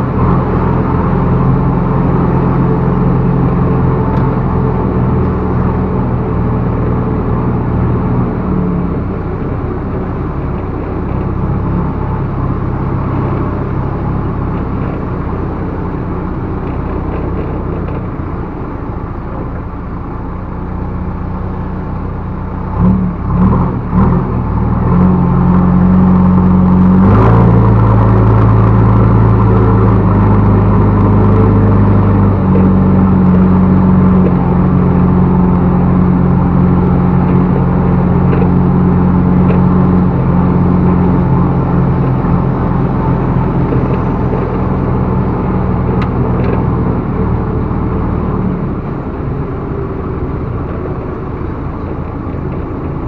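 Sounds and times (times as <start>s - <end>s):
backhoe diesel engine revving: 0.0s - 53.0s.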